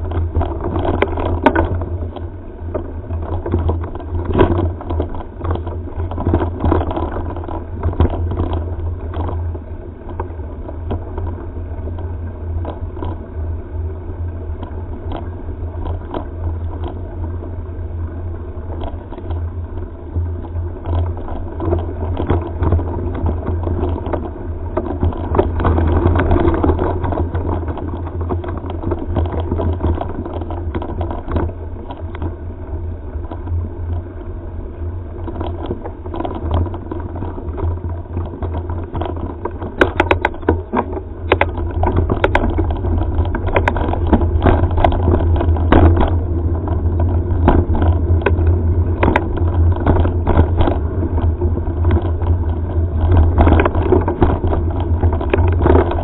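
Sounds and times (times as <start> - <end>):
bike clicks and rattling knocks: 0.0 - 13.3, 14.0 - 34.4, 35.1 - 56.0
wind rumble on microphone: 0.0 - 56.0.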